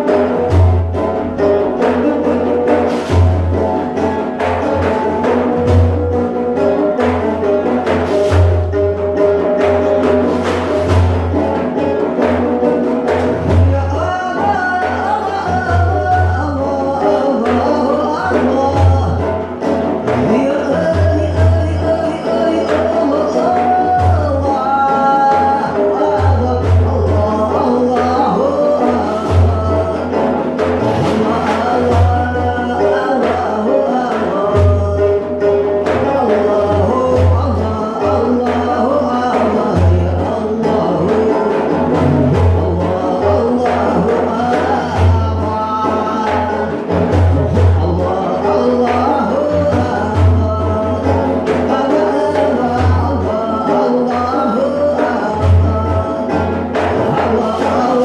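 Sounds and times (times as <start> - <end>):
frame drum strokes: 0.0 - 58.0
person singing: 0.0 - 58.0.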